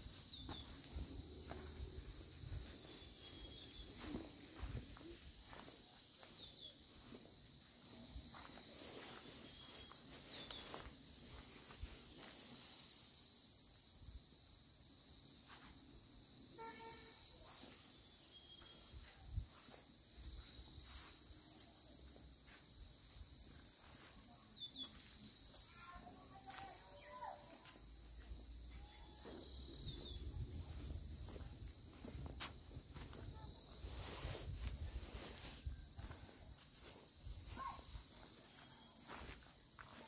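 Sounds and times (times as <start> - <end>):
insects singing: 0.0 - 40.0.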